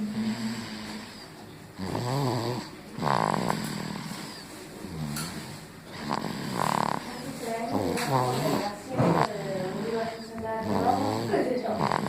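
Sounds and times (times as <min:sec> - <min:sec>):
baby snoring: 0:00.0 - 0:12.0.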